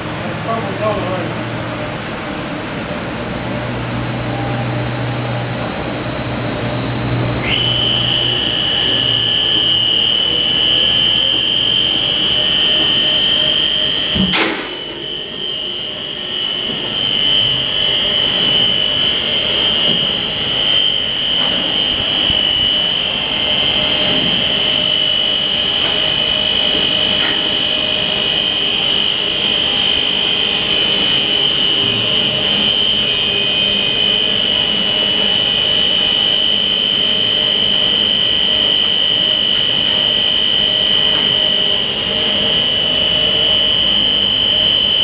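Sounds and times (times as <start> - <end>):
meat grinder running with whine: 0.0 - 45.0.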